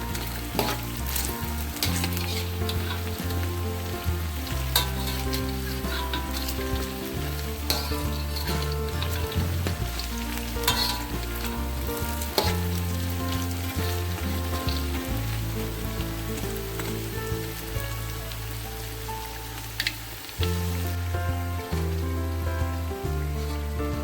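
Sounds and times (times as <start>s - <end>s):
background music with held chords: 0.0s - 24.0s
food sizzling in hot oil: 0.0s - 24.0s.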